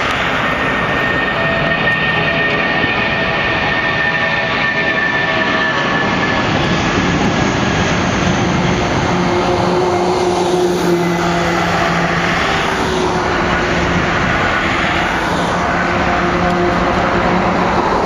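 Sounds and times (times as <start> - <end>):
jet engines at takeoff thrust: 0.0 - 18.0.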